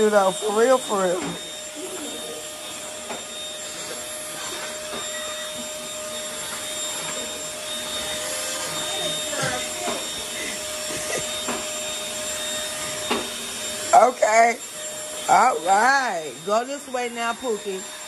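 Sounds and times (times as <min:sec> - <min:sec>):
vacuum cleaner motor whine: 0:00.0 - 0:18.0.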